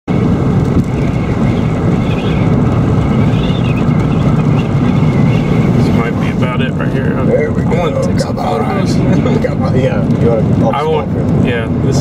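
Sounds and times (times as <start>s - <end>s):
car road noise from inside: 0.1s - 12.0s.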